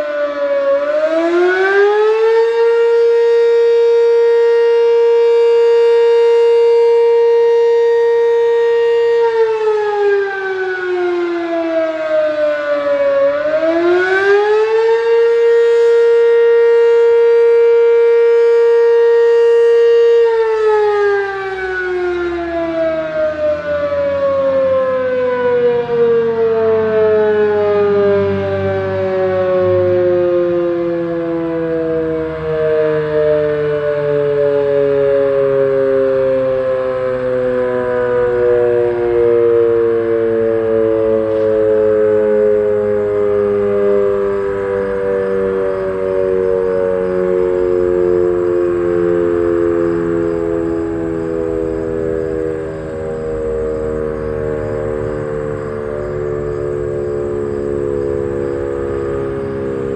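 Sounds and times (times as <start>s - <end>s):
dual-tone siren: 0.0s - 59.9s.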